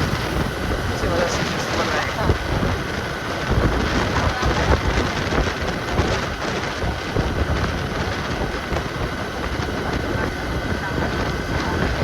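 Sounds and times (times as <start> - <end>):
motorcycle engine: 0.0 - 12.0
traffic rumble: 0.0 - 12.0
wind buffeting microphone: 0.0 - 12.0.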